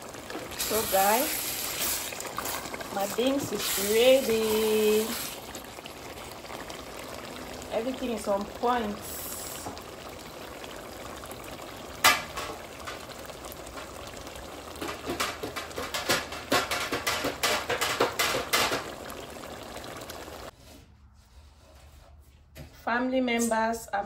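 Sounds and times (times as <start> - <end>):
bubbles popping and spattering: 0.0 - 20.5
pot simmering with hiss: 0.0 - 20.6.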